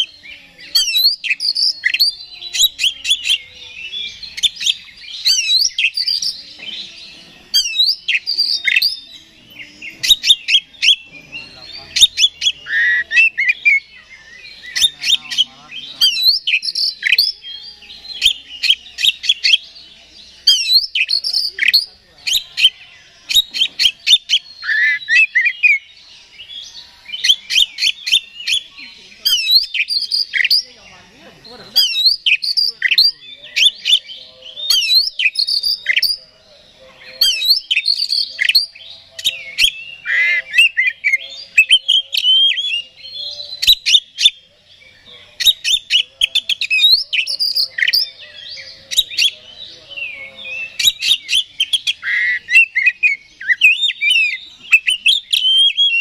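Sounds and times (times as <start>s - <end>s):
bird song with clicks and whistles: 0.0s - 30.7s, 31.7s - 36.3s, 36.9s - 56.0s.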